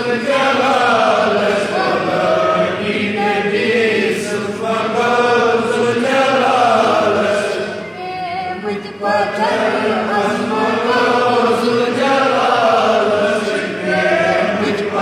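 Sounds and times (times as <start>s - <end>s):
boy singing unaccompanied hymn: 0.0s - 15.0s.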